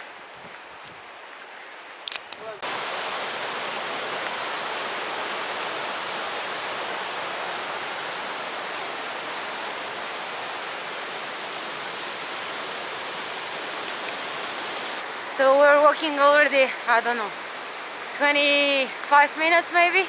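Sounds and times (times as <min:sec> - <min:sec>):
fast-flowing creek rushing: 0:00.0 - 0:20.0.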